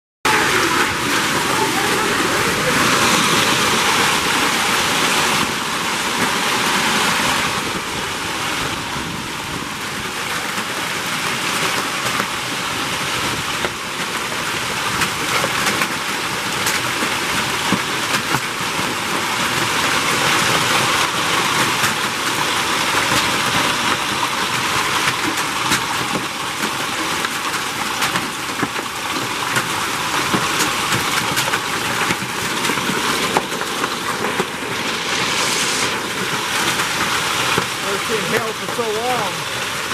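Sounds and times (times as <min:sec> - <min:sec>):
hailstones ticking: 0:00.3 - 0:34.7, 0:36.1 - 0:39.9
heavy rain and hail: 0:00.3 - 0:39.9.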